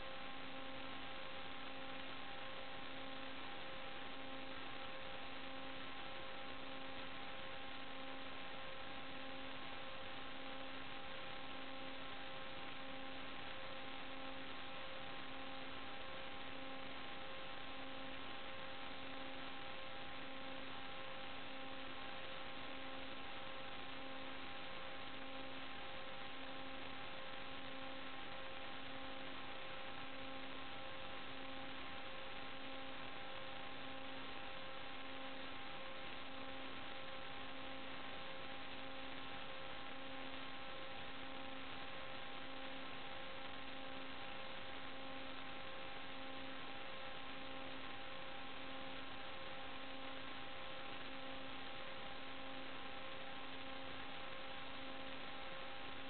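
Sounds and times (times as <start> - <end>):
electrical hiss and hum: 0.0 - 56.0.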